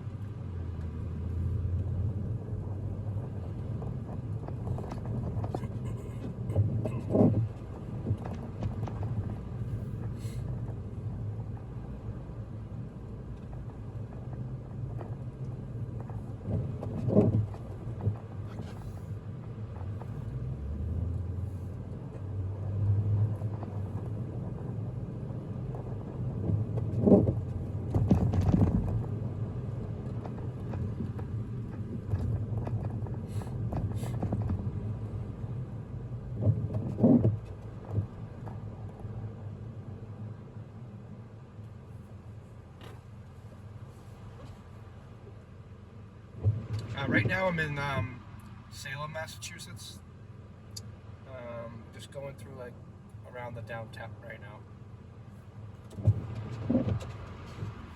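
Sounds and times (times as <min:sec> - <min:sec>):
car engine and road rumble: 0:00.0 - 0:57.9.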